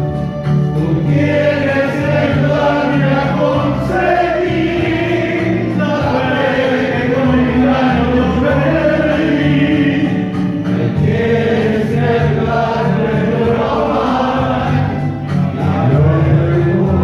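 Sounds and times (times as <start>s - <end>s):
bass line: 0.0s - 17.0s
choir-like voices singing: 0.0s - 17.0s.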